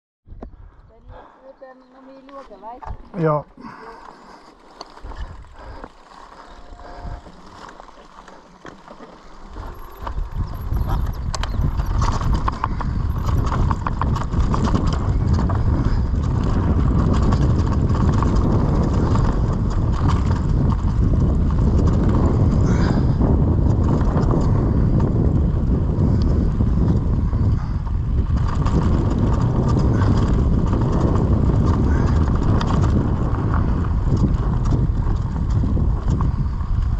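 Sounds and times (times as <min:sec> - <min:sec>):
wind rumble on microphone: 0:00.2 - 0:36.9
mountain bike rattling on trail: 0:02.0 - 0:36.9.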